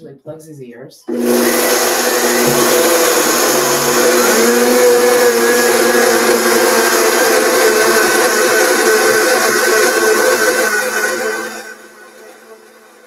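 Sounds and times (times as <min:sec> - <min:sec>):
blender grinding oats: 0:01.1 - 0:13.0.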